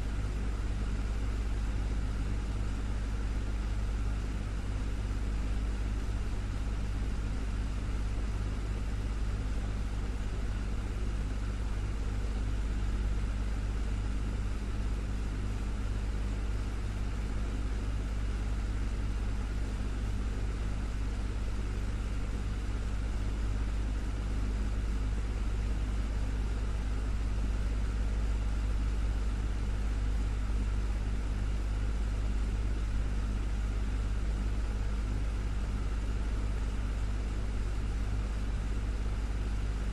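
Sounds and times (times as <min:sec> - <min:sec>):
desktop fan whirring: 0:00.0 - 0:39.9.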